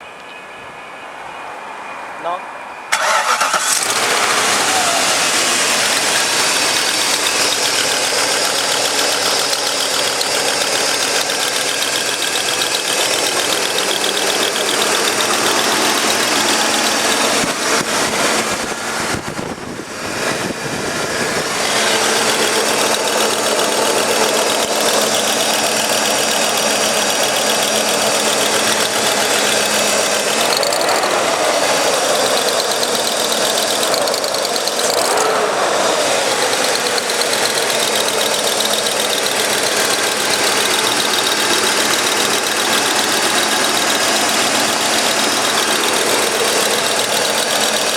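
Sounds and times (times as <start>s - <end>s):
car engine idling: 2.9s - 47.9s
steady engine ticking: 3.0s - 47.9s.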